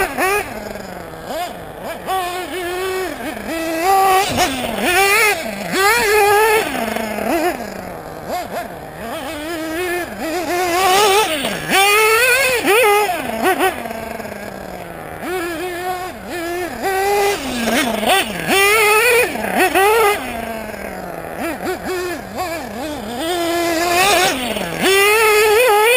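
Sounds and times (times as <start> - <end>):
model car engine revving: 0.0 - 25.9.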